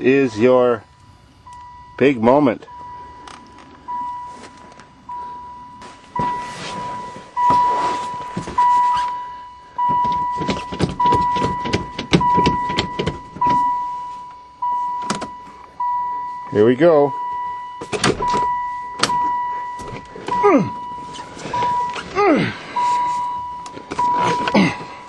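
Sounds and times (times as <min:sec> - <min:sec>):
dashboard warning chime dinging: 0:00.0 - 0:25.0.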